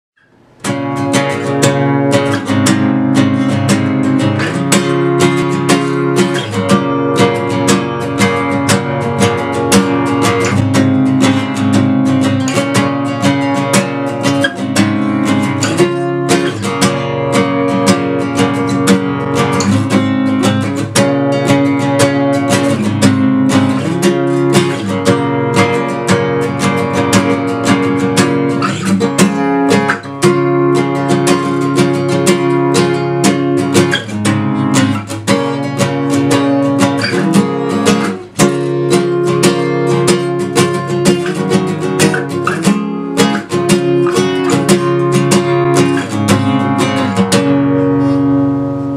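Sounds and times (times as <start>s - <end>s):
strummed acoustic guitar: 0.2s - 48.9s.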